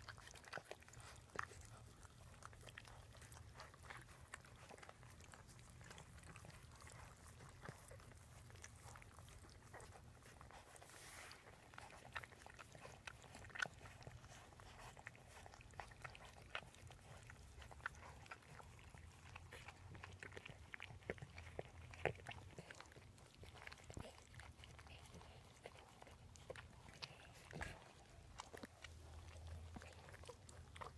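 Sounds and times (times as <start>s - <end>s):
dogs licking wet clicks: 0.0s - 30.9s
low steady hum: 0.0s - 30.9s.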